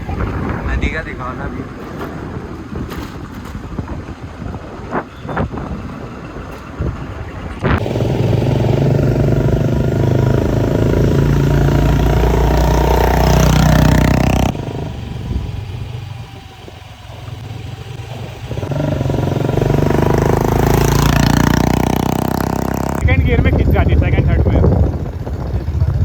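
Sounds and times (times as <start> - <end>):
motorcycle engine accelerating: 1.8 - 26.0.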